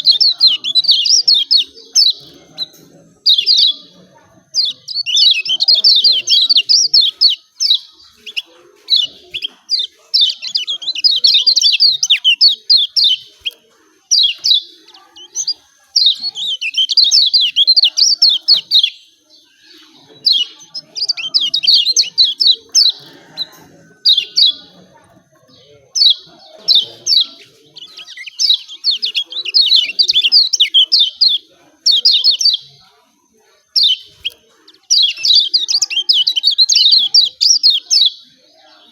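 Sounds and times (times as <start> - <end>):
bird chattering call: 0.0 - 32.8, 33.7 - 38.3.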